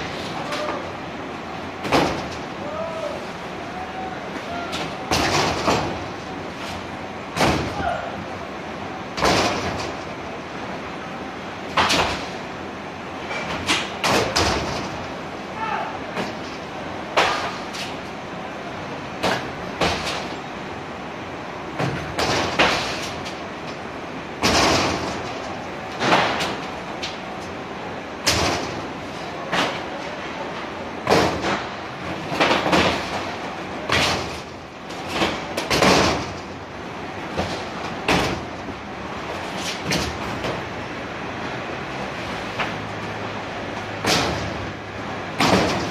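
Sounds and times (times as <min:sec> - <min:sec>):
machinery hum: 0:00.0 - 0:45.9.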